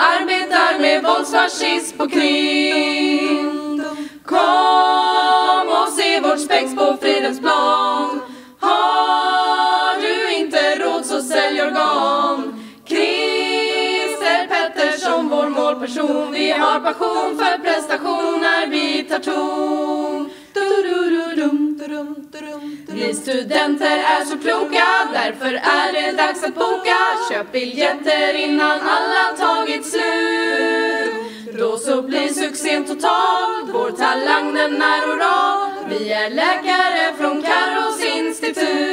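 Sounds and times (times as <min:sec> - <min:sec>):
women singing in harmony: 0:00.0 - 0:38.9.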